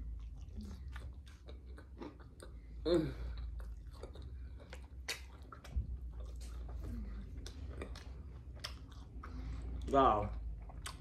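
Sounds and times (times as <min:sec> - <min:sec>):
person chewing with wet mouth clicks: 0:00.0 - 0:11.0
steady low hum: 0:00.0 - 0:11.0.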